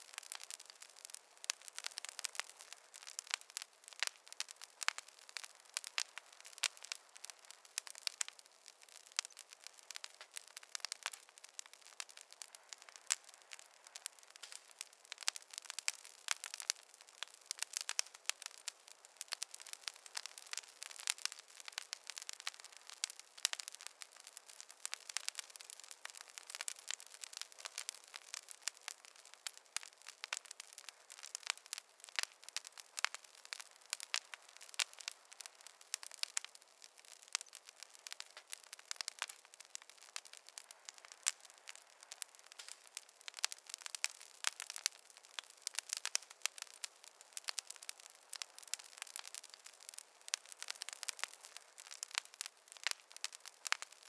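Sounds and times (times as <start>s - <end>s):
soft hiss: 0.0s - 54.0s
wood logs crackling in fireplace: 0.0s - 54.0s.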